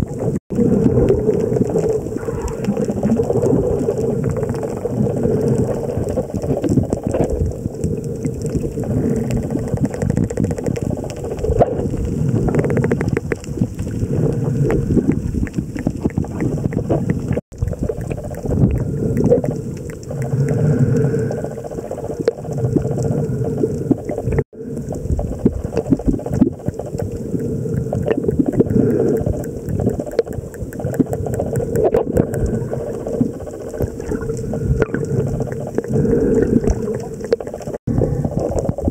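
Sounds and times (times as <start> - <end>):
underwater water noise: 0.0 - 38.9
dolphin clicks crackling: 1.2 - 13.6, 14.4 - 24.4, 25.4 - 37.8.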